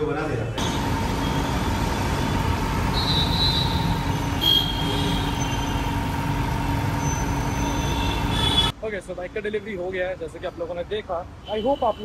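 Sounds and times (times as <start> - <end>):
busy street traffic rumble: 0.0 - 12.0.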